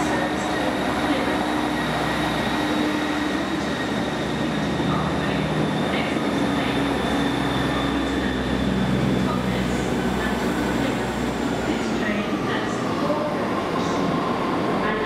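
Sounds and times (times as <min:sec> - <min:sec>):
train engine hum with whine: 0:00.0 - 0:15.0
train rolling noise: 0:00.0 - 0:15.0.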